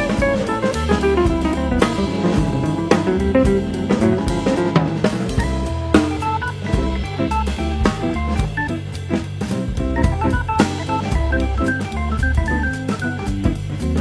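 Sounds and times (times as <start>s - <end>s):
instrumental music with drum beat: 0.0s - 14.0s.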